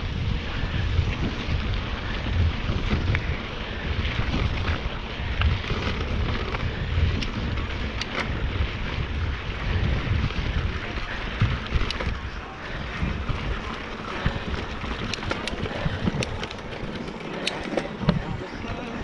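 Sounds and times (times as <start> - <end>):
bike tyres rumbling on gravel: 0.0 - 19.0
wind buffeting microphone: 0.0 - 19.0.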